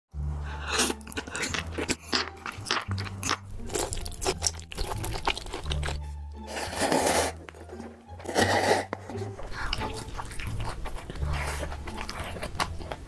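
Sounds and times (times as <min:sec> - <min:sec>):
crunchy bites and chewing: 0:00.4 - 0:13.0.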